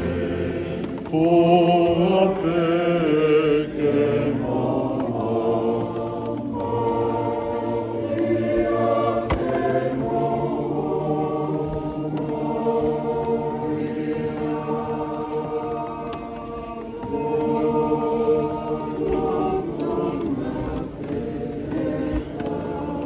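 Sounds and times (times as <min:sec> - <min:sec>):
choir singing a hymn: 0:00.0 - 0:23.0.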